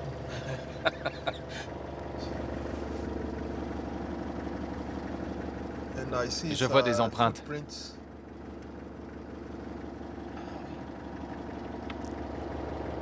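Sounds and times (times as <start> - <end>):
vehicle engine drone from cabin: 0.0 - 13.0.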